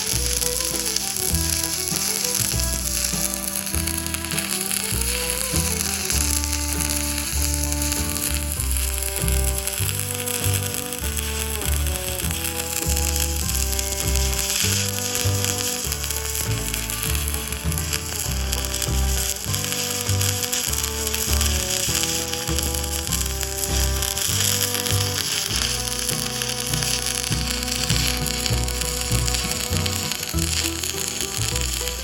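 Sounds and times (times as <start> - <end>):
background music with bass: 0.0 - 32.0
welding arc crackling sizzle: 0.0 - 32.0.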